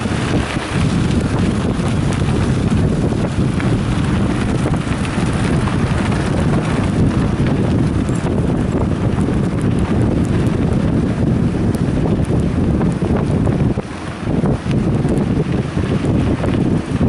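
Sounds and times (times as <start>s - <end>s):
small rattles: 0.0s - 13.9s
tyres rumbling on gravel: 0.0s - 17.0s
wind rushing over microphone: 0.0s - 17.0s.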